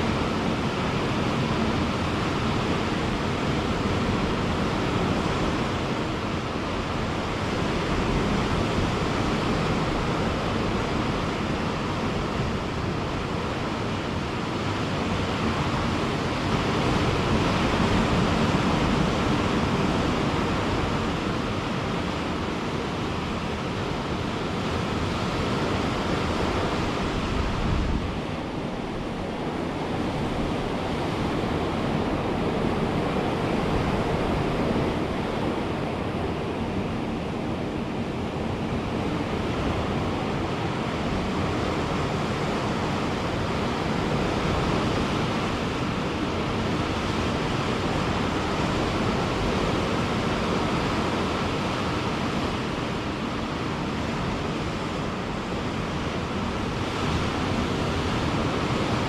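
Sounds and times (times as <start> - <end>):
ocean surf breaking on a beach: 0.0 - 59.0
wind on the microphone: 0.0 - 59.0.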